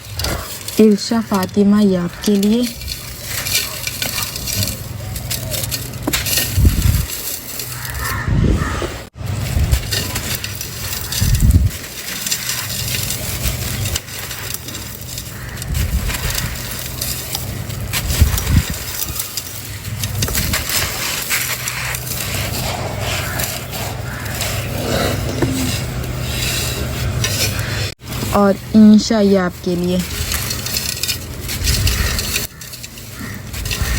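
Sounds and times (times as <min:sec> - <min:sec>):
gritty crunching and crackling: 0:00.0 - 0:33.9.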